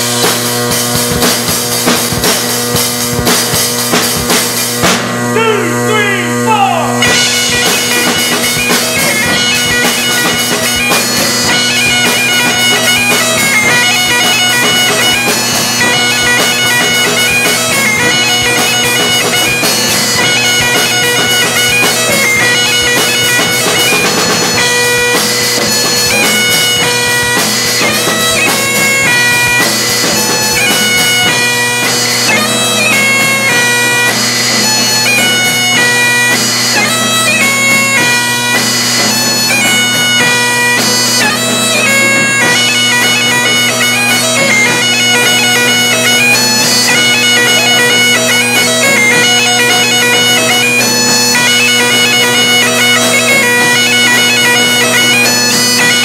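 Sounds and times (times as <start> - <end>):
bagpipe playing up-tempo tune: 0.0 - 56.0
drums beating: 0.0 - 56.0.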